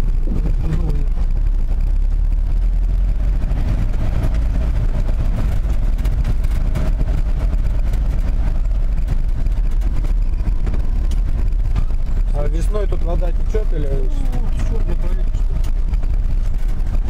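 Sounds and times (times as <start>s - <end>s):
knocks and rattles over bumps: 0.0s - 17.0s
vehicle rumbling on dirt track: 0.0s - 17.0s.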